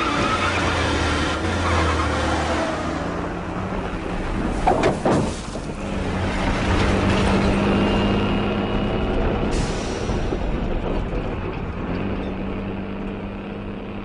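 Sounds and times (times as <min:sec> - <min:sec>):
car engine: 0:00.0 - 0:14.0
heavy truck engine running: 0:00.0 - 0:14.0.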